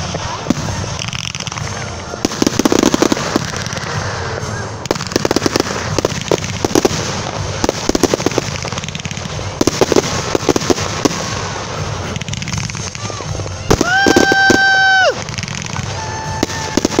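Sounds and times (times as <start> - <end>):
fireworks bangs and pops: 0.0 - 17.0
fireworks crackle: 0.0 - 17.0.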